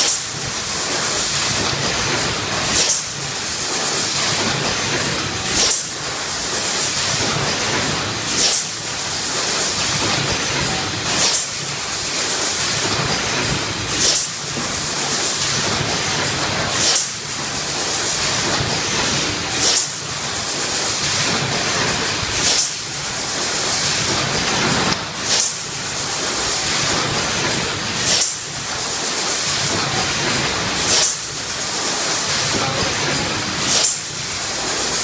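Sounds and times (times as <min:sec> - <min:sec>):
steady machine noise: 0:00.0 - 0:35.0.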